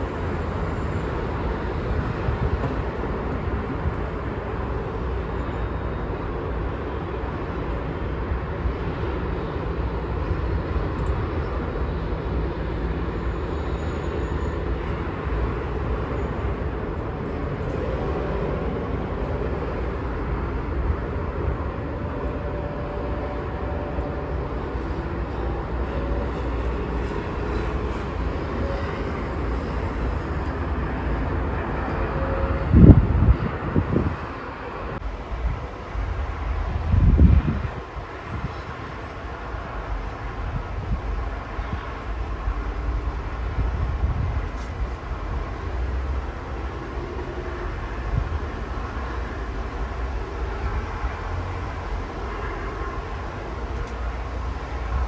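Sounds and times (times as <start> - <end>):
distant road traffic rumble: 0.0 - 55.0
wind: 0.0 - 55.0.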